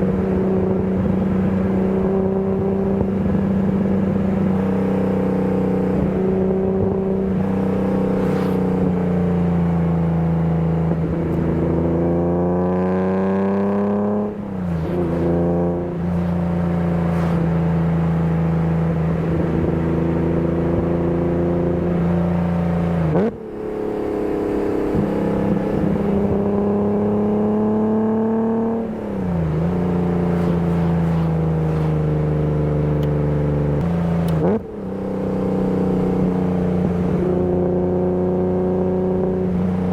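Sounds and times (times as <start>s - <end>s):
car engine running under load: 0.0s - 39.9s.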